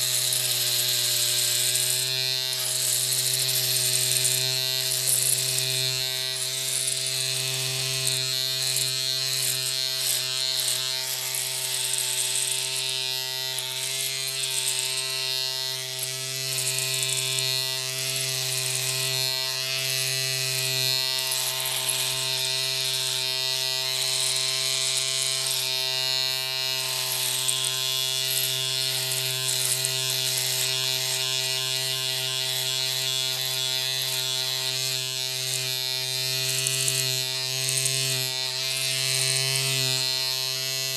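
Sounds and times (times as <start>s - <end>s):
small electric motor buzzing: 0.0s - 40.9s.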